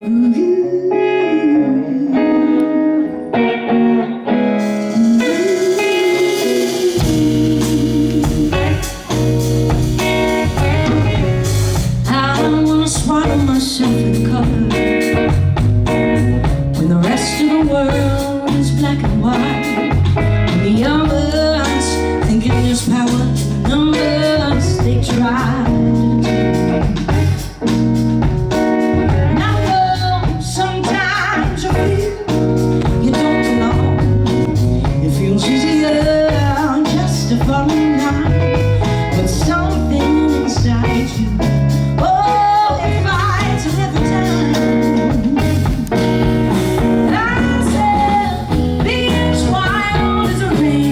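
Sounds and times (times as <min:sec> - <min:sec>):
blues band playing: 0:00.0 - 0:50.9
electric guitar lead melody: 0:00.0 - 0:50.9.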